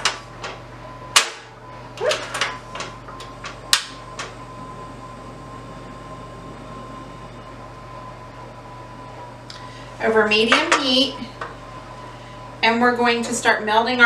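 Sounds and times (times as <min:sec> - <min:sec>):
gas burner whine: 0:00.0 - 0:14.0.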